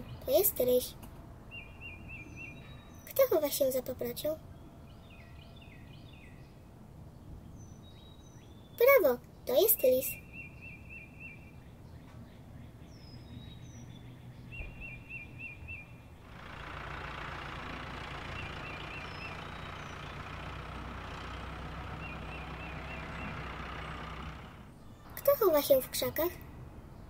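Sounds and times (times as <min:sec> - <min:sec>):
car engine and road noise: 0:00.0 - 0:08.5, 0:09.8 - 0:27.0
birds chirping: 0:00.0 - 0:27.0.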